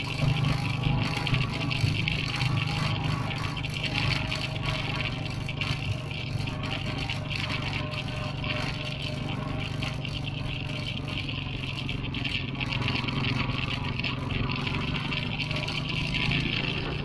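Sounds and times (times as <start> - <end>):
vehicle engine running: 0.0 - 17.0
vehicle rattling on dirt track: 0.0 - 17.0.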